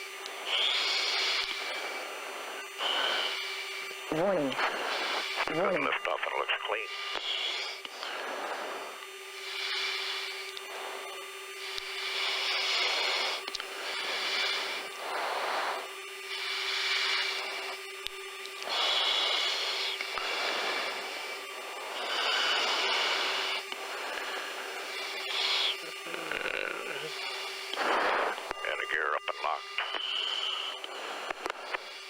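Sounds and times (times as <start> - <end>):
breathing into oxygen mask: 0.0 - 32.0
steady cockpit hum: 0.0 - 32.0.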